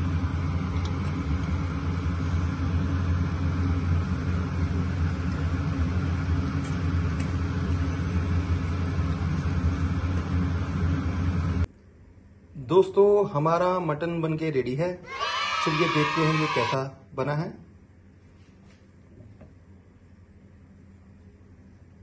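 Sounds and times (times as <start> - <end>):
low mechanical hum and rumble: 0.0 - 22.0.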